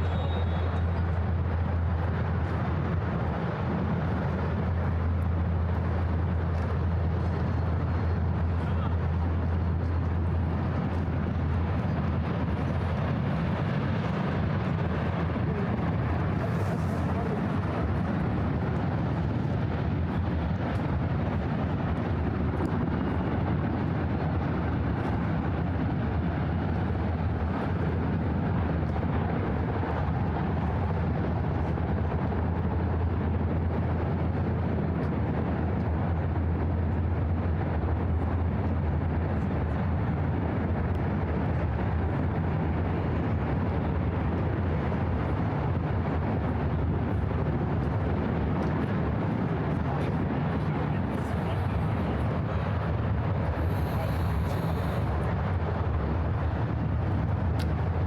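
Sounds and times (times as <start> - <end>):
distant city traffic rumble: 0.0 - 58.0.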